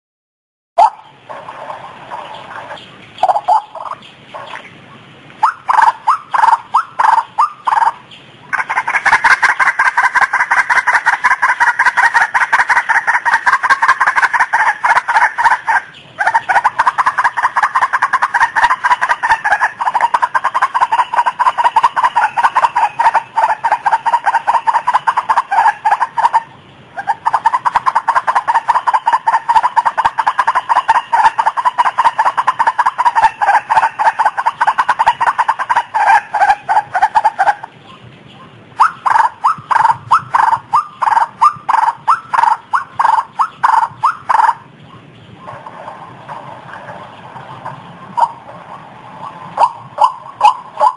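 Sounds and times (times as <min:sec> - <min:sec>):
waterhen calling harsh notes: 0:00.8 - 0:50.9.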